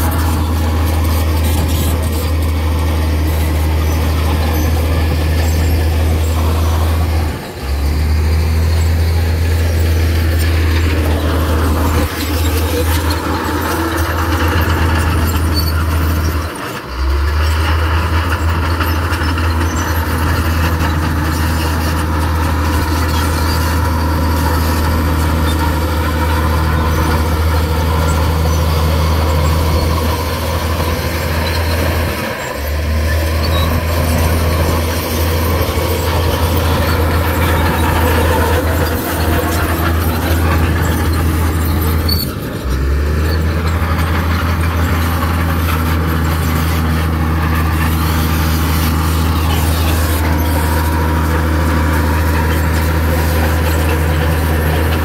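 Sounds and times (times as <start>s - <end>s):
bulldozer diesel engine running: 0.0s - 55.0s
track and machinery noise: 0.0s - 55.0s.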